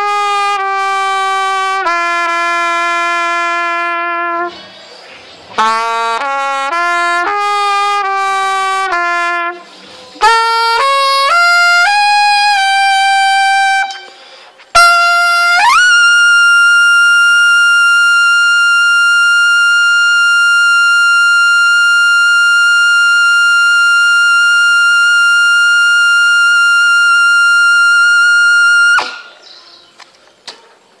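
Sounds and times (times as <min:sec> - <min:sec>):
trumpet holding high note: 0:00.0 - 0:04.7, 0:05.6 - 0:29.3.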